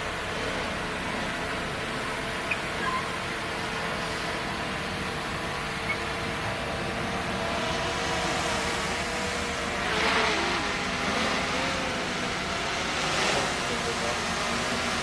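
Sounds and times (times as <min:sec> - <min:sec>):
heavy machinery diesel engine running: 0:00.0 - 0:13.0.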